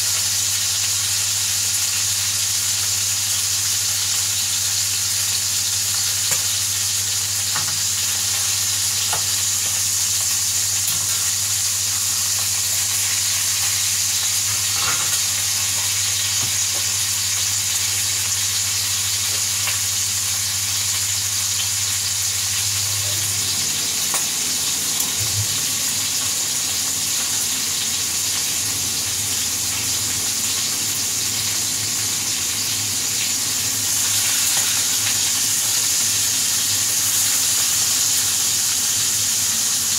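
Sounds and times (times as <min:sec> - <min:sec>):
burger patties sizzling in a pan: 0:00.0 - 0:39.9.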